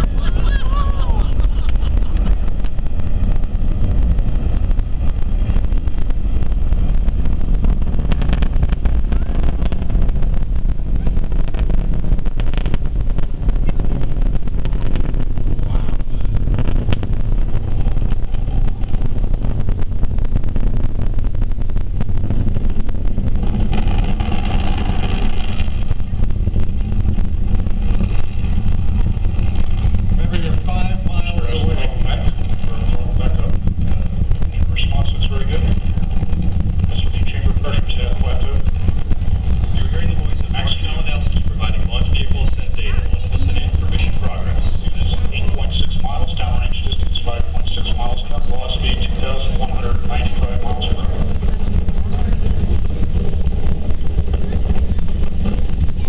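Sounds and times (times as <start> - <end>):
continuous crackle: 0.0 - 56.0
distant rocket launch rumble: 0.0 - 56.0.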